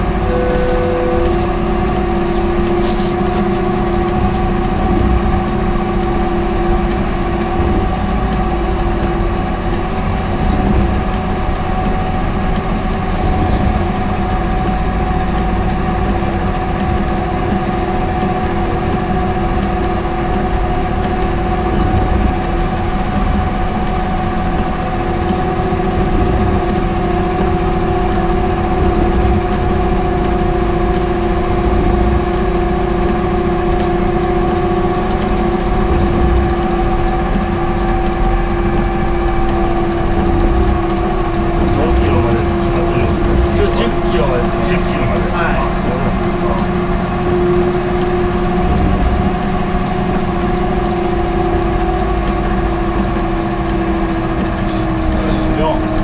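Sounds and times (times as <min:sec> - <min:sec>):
tractor engine rumble with whine: 0:00.0 - 0:56.0.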